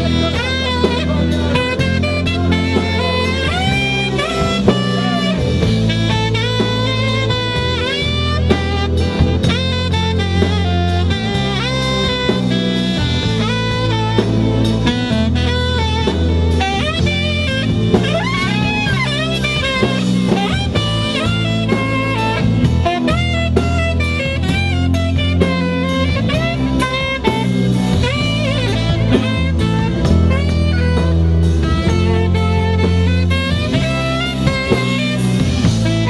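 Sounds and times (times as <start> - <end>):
drum kit: 0.0 - 36.0
electric bass: 0.0 - 36.0
saxophone solo: 0.0 - 36.0.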